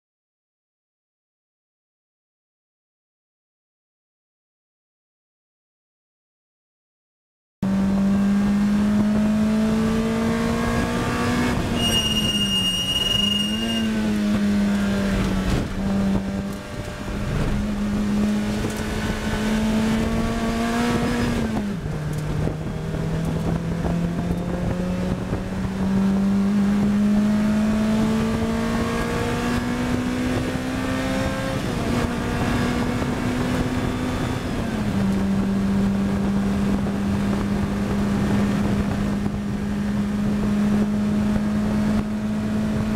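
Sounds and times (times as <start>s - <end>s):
car engine revving with gear changes: 7.6s - 42.9s.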